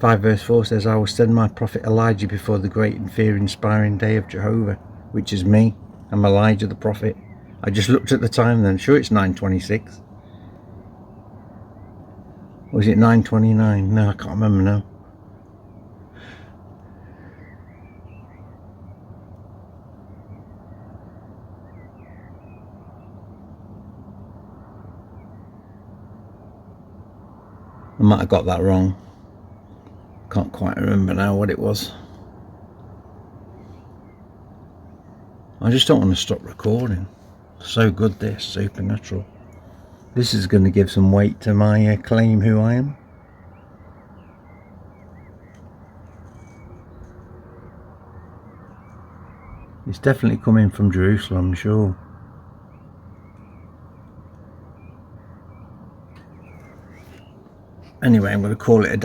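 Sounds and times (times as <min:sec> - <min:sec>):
faint bird chirps: 0:00.0 - 0:59.0
low rushing drone: 0:00.0 - 0:59.0.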